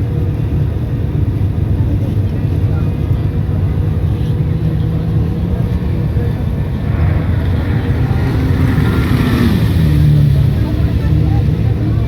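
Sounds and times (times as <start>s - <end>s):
boat engine deep rumble: 0.0s - 12.0s.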